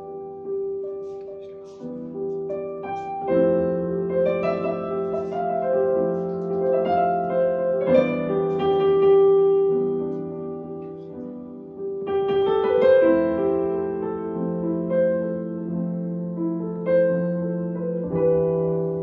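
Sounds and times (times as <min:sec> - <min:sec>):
slow piano chords on keyboard: 0:00.0 - 0:19.0.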